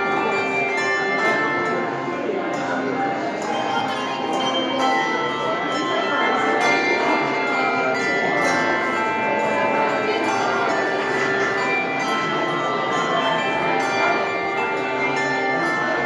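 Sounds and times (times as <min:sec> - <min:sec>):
handbell choir ringing chords: 0:00.0 - 0:16.0.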